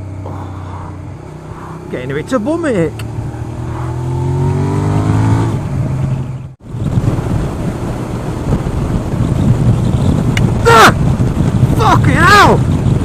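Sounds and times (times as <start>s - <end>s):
motorcycle engine accelerating: 0.0s - 11.8s
wind buffeting helmet microphone: 0.0s - 13.0s.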